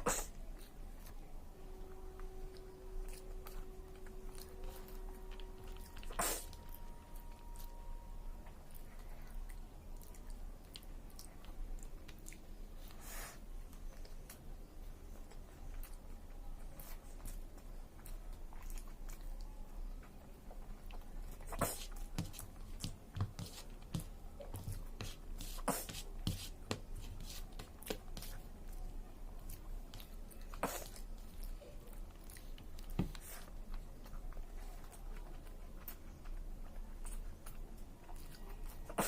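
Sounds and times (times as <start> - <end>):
chewing with wet mouth clicks: 1.9 - 7.8, 8.4 - 13.0, 13.7 - 25.0, 27.7 - 39.0.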